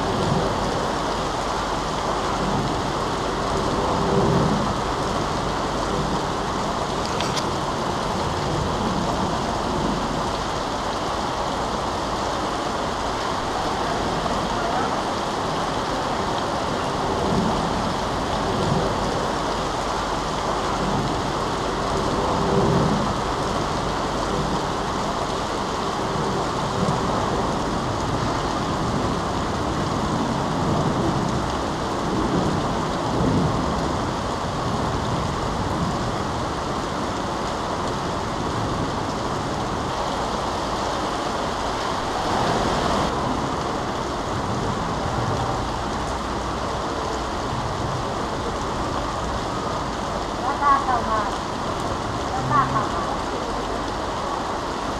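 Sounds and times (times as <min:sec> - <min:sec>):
floodwater running: 0:00.0 - 0:54.9
heavy rain: 0:00.0 - 0:54.9.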